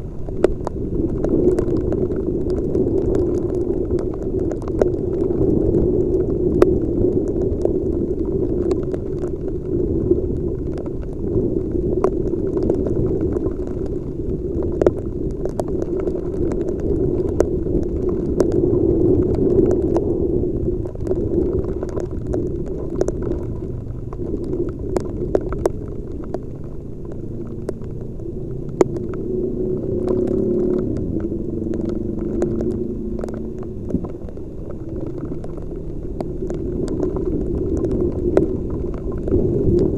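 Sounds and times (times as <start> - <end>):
muffled motorcycle rumble: 0.0 - 39.9
raindrops ticking on helmet: 0.0 - 39.9.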